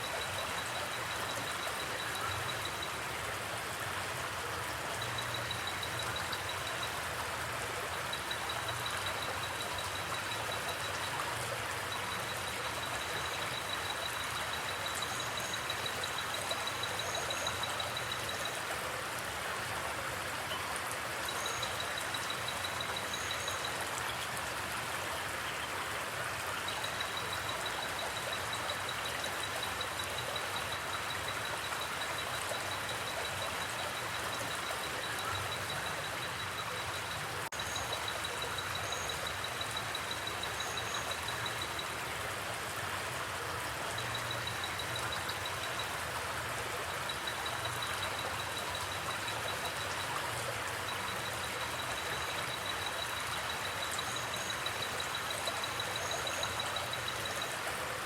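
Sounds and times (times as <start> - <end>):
creek rushing: 0.0 - 58.0.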